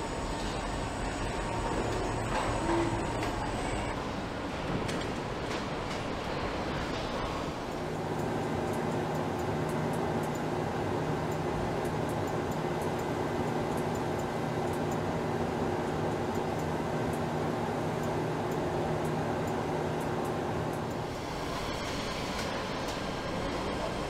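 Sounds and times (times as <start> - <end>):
factory machinery hum: 0.0 - 24.0.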